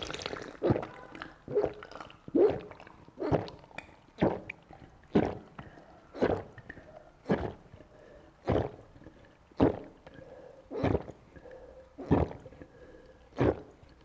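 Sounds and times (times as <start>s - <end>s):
person gulping a drink: 0.0s - 14.0s.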